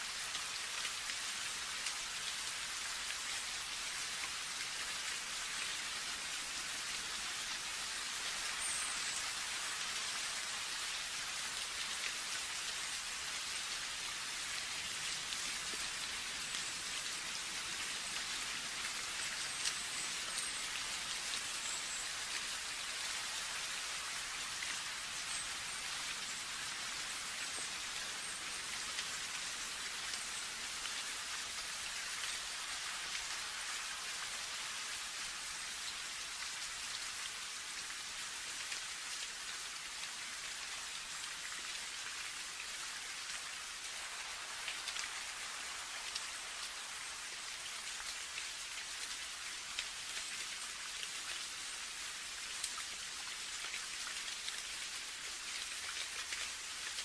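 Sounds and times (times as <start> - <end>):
steady rain hiss: 0.0 - 57.0
raindrops pattering on a surface: 0.1 - 57.0.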